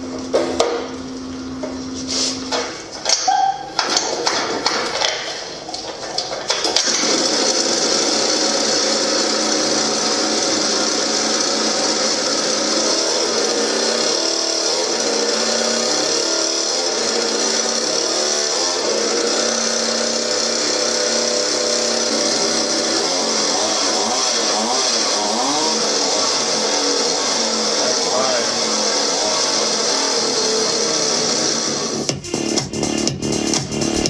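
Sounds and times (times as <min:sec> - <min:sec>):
small dirt bike engine running: 0:06.2 - 0:34.0.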